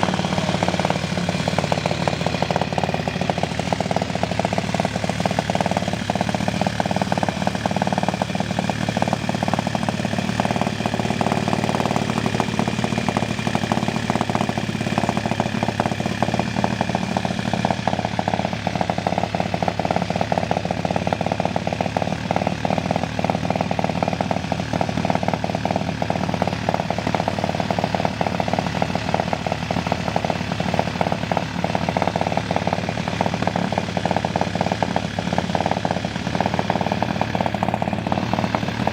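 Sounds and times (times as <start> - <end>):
rattling single-cylinder engine: 0.0 - 38.9.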